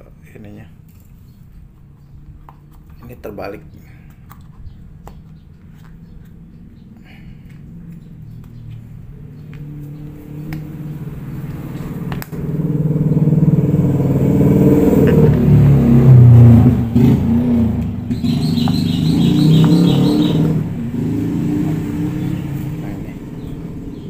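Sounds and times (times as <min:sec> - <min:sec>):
vehicle engine running: 0:03.7 - 0:24.0.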